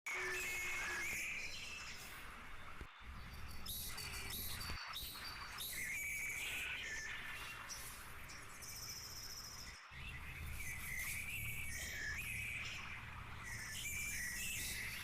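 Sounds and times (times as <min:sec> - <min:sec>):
bird chirping: 0:02.6 - 0:15.0.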